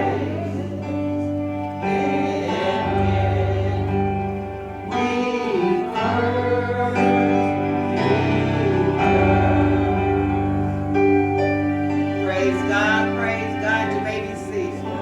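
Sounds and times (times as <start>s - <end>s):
sustained keyboard chords: 0.0s - 15.0s
voices singing gospel: 0.0s - 15.0s.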